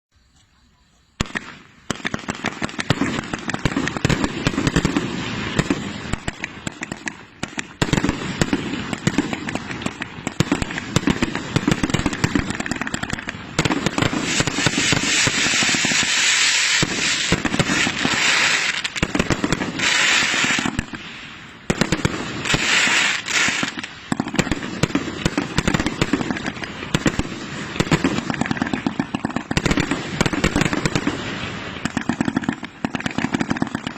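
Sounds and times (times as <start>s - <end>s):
hissing crackle: 0.1s - 33.9s
firework bangs and crackling: 1.1s - 33.9s.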